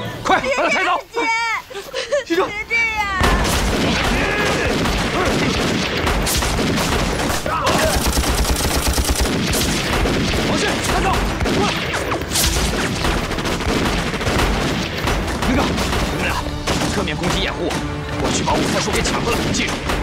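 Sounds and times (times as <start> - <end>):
rapid overlapping gunshots: 3.2 - 20.0.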